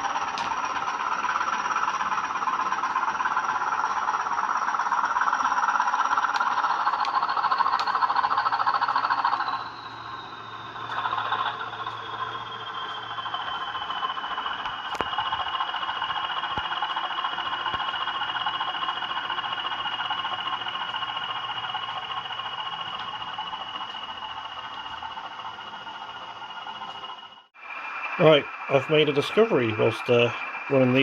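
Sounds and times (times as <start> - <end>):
model locomotive diesel engine sound: 0.0 - 31.0
turbocharger whistle: 0.0 - 31.0.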